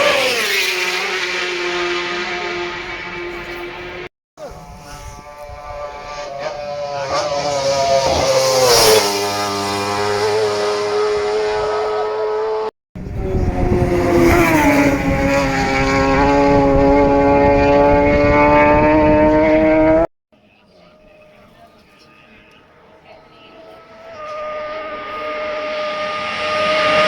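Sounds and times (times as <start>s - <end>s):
racing motorcycle passing by: 0.0s - 20.1s, 22.3s - 27.0s.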